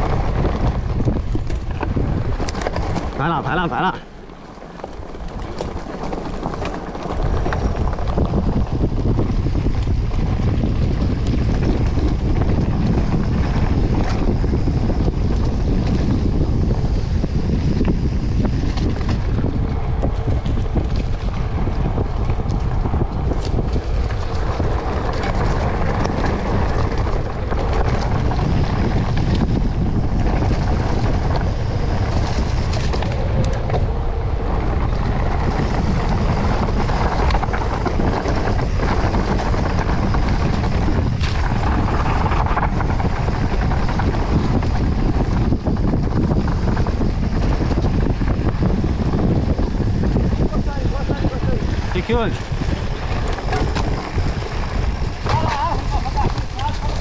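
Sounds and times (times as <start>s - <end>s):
bike knocks and rattles: 0.0s - 57.0s
bike tyres rolling on dirt: 0.0s - 57.0s
wind buffeting microphone: 0.0s - 57.0s.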